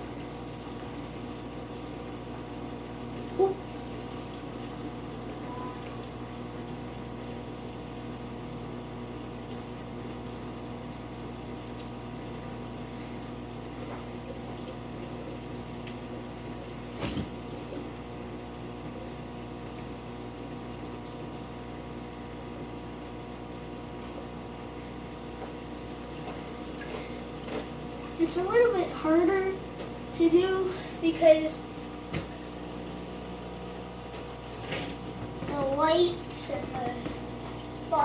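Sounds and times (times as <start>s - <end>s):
aquarium pump humming: 0.0s - 38.0s
faint water sounds: 0.0s - 38.0s.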